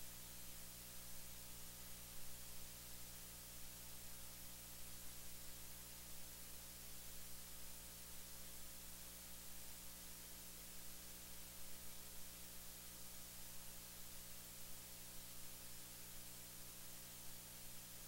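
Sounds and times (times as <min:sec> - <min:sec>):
faint steady hiss: 0:00.0 - 0:18.0
low electrical hum: 0:00.0 - 0:18.0.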